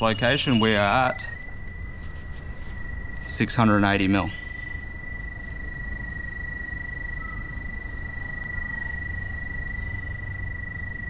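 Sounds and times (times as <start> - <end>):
low background rumble: 0.0 - 11.0
steady high electronic tone: 0.0 - 11.0.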